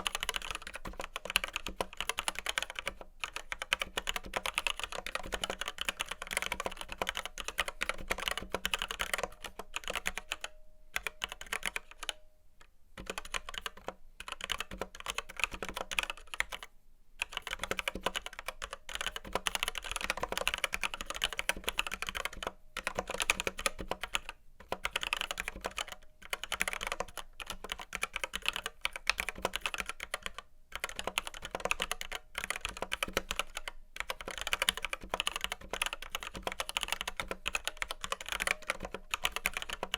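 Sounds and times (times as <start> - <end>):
mechanical keyboard typing: 0.0 - 12.2, 13.0 - 39.9.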